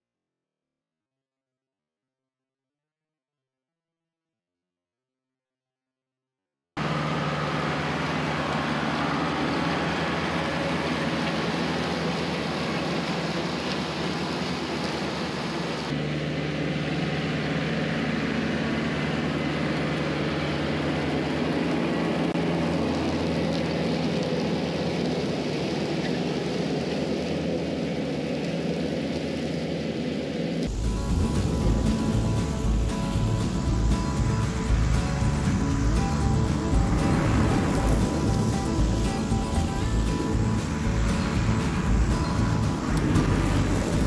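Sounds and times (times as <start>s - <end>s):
mower blades cutting grass: 6.8s - 44.0s
tractor diesel engine drone: 6.8s - 44.0s.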